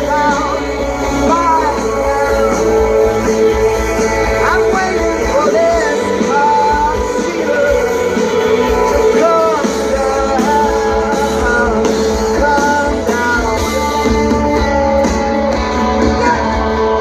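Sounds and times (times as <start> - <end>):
bass guitar: 0.0 - 17.0
electric guitar: 0.0 - 17.0
person singing: 0.0 - 17.0
rock band playing live: 0.0 - 17.0.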